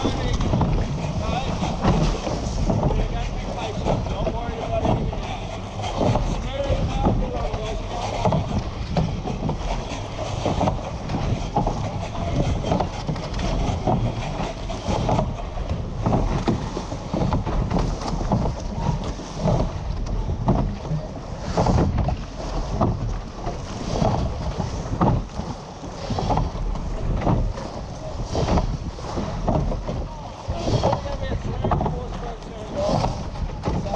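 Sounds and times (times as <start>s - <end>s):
rowing thuds: 0.0s - 33.9s
water rushing past boat hull: 0.0s - 33.9s
wind buffeting microphone: 0.0s - 33.9s.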